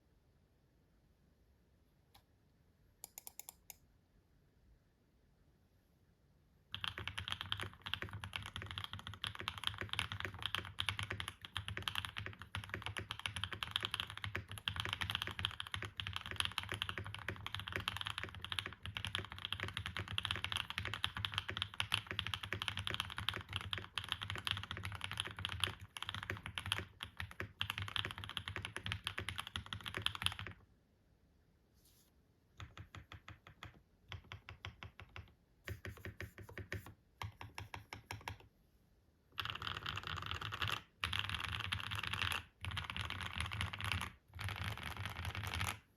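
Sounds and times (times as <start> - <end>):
mechanical keyboard typing: 3.0 - 3.8, 6.7 - 30.6, 32.6 - 38.5, 39.4 - 45.9.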